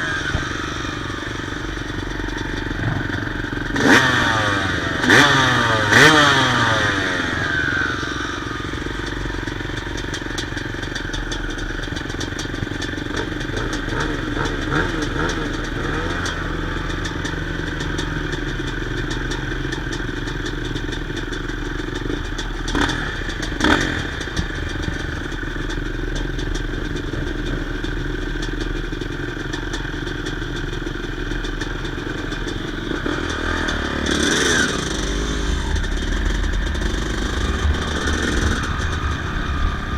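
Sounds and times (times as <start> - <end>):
dirt bike engine running and revving: 0.0 - 39.9.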